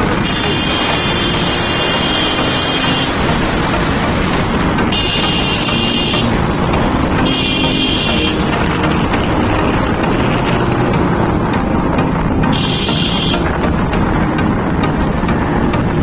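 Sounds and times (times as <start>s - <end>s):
horn beeping: 0.0s - 14.6s
motorcycle engine: 0.0s - 16.0s
wind noise: 0.0s - 16.0s.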